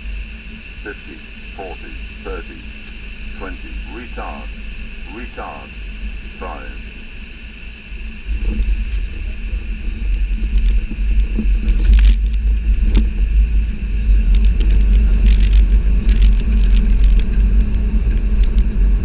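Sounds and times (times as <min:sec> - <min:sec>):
constant hum: 0:00.0 - 0:19.0
heavy low rumble: 0:00.0 - 0:19.0.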